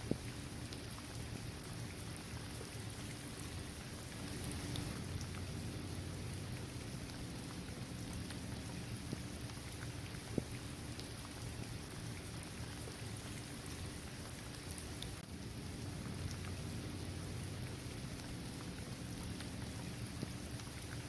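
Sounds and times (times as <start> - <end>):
rain falling on pavement: 0.0 - 21.0.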